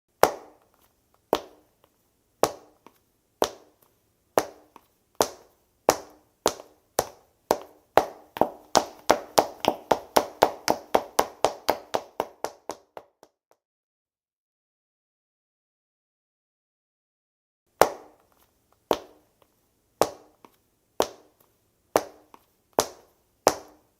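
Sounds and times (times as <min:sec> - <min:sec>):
hard-soled footsteps walking and running: 0:00.1 - 0:13.4, 0:17.7 - 0:23.9.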